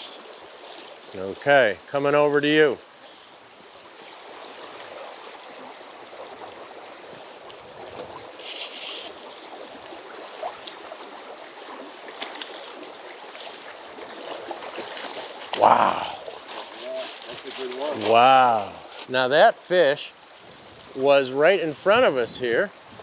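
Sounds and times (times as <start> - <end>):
river current rushing: 2.2 - 22.0.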